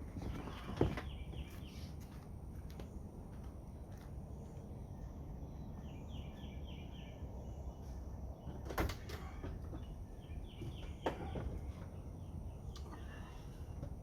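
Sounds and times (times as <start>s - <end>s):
low background noise: 0.0s - 14.0s
bird chirping: 0.2s - 2.1s, 4.4s - 13.8s.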